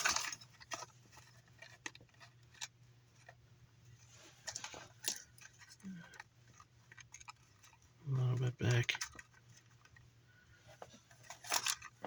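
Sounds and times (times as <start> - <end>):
faint low hum: 0.0 - 12.0
light clicks and rustles of parts: 0.0 - 12.0.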